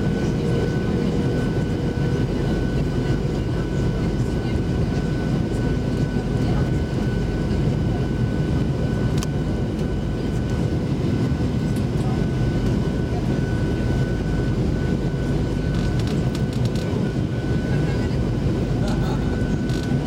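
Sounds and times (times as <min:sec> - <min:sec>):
low rumble of jet engines: 0:00.0 - 0:20.0.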